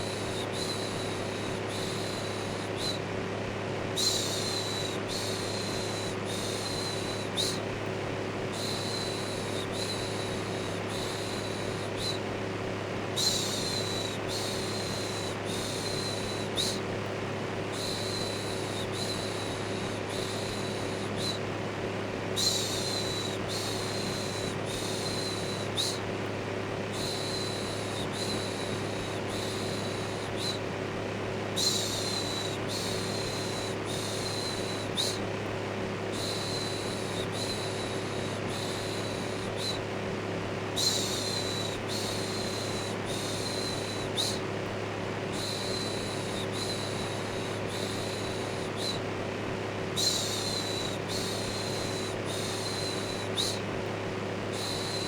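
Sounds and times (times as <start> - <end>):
electric fan whir: 0.0 - 55.0.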